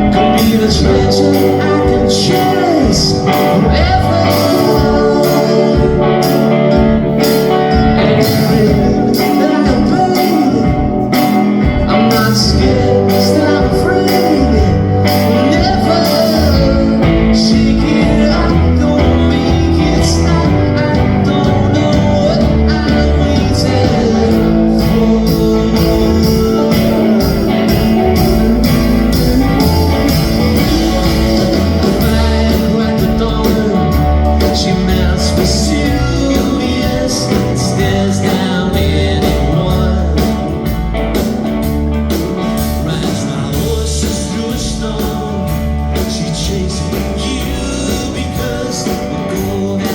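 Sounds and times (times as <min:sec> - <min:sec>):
electric guitar: 0:00.0 - 0:49.9
live rock band playing: 0:00.0 - 0:49.9.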